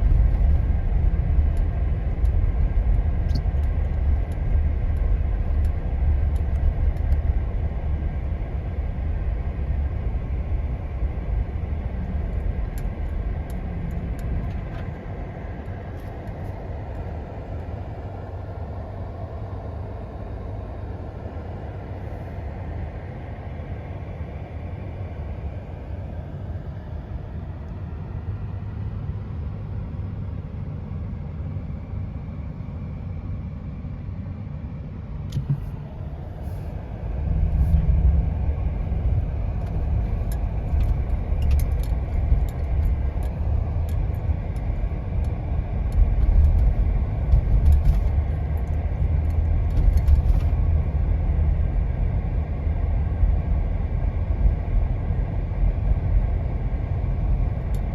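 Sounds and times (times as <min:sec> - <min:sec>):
car engine and tyres rumbling: 0:00.0 - 0:57.9.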